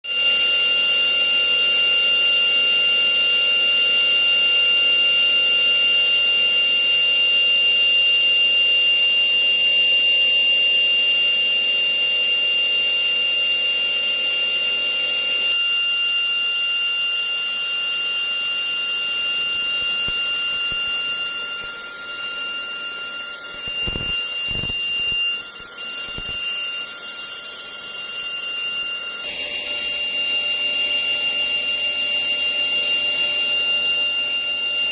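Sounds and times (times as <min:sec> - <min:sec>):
grinding spindle whine: 0:00.1 - 0:34.9.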